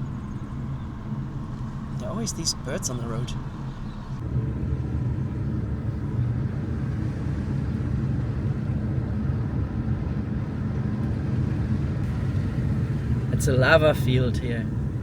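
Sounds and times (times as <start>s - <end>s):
car engine rumble: 0.0s - 15.0s
tyre road noise: 0.0s - 15.0s.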